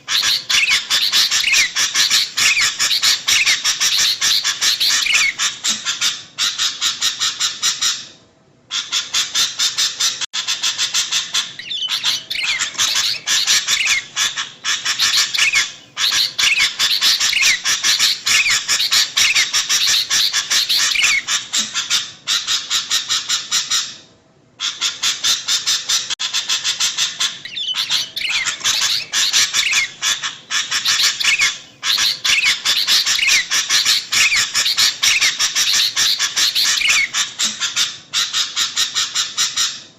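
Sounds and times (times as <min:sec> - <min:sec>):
birds chattering chirps: 0:00.0 - 0:08.0, 0:08.7 - 0:23.9, 0:24.6 - 0:39.8.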